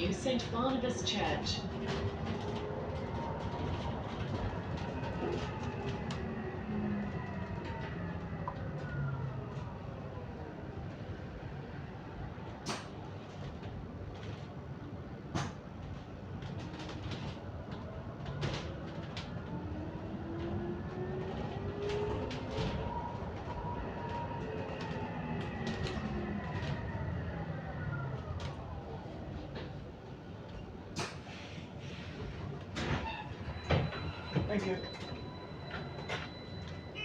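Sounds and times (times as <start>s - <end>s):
bus drivetrain whine: 0.0s - 37.0s.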